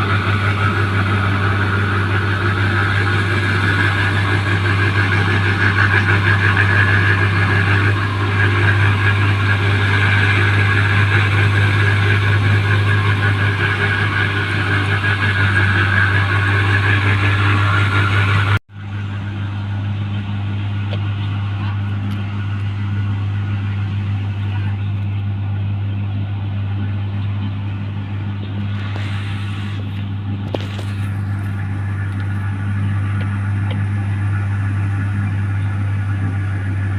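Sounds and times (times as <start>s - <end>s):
combine harvester engine hum: 0.0s - 36.9s.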